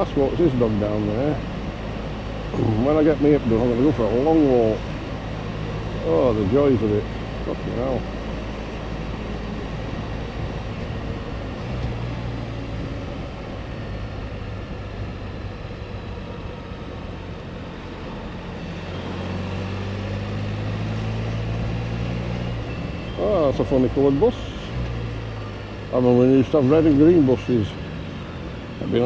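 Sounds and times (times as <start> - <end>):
motorcycle engine running: 0.0 - 29.0
wind and road rush: 0.0 - 29.0.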